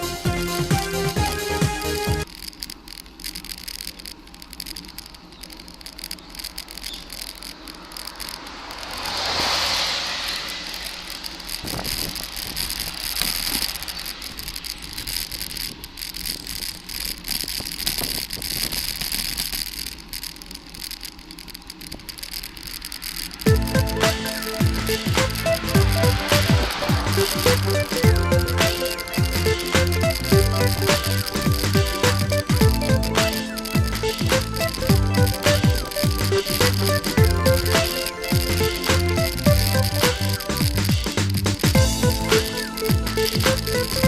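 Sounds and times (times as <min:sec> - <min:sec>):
rushing noise: 0:01.9 - 0:44.0
bicycle rattling and clicking: 0:02.2 - 0:09.6, 0:10.5 - 0:44.0
tyre and wind noise: 0:06.1 - 0:20.1, 0:21.8 - 0:44.0.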